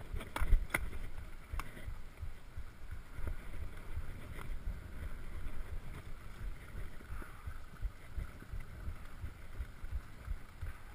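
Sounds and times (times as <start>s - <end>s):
bike rattling over bumps: 0.0s - 10.9s
bike tyres rolling on dirt: 0.0s - 10.9s
wind buffeting microphone: 0.0s - 10.9s.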